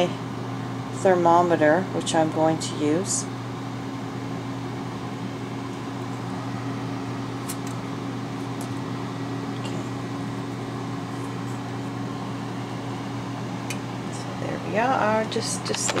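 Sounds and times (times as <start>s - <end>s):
air fryer fan humming: 0.0s - 16.0s.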